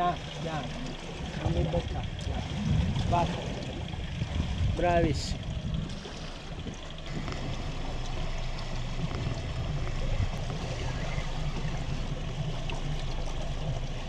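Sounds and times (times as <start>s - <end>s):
low rumble: 0.0s - 14.0s
water sloshing against boat hull: 0.0s - 14.0s.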